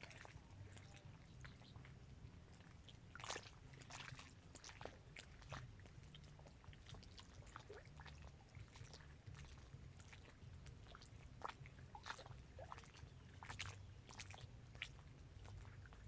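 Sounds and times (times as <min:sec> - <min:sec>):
low steady rumble: 0:00.0 - 0:16.0
small waves lapping: 0:00.0 - 0:16.0.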